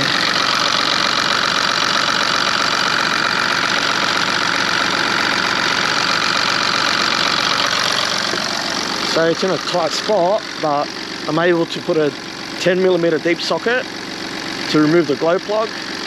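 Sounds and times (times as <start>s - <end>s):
diesel engine idling with clatter: 0.0s - 16.0s.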